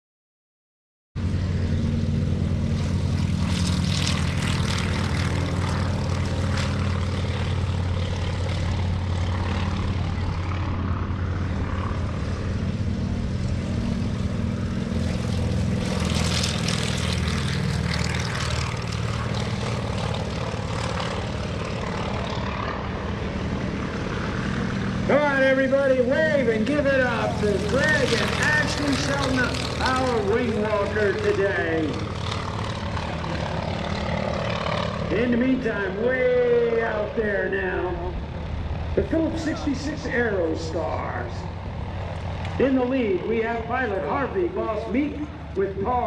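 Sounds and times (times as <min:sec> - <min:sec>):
propeller aircraft engine droning: 0:01.2 - 0:46.0.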